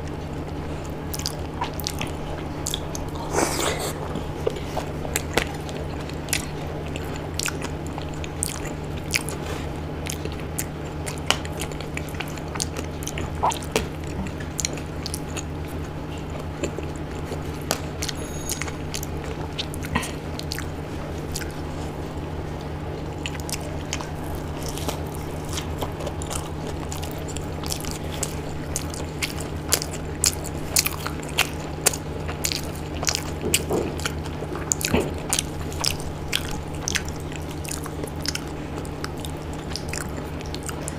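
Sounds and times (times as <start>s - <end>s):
chewing and biting food: 0.0s - 40.9s
steady low hum: 0.0s - 40.9s.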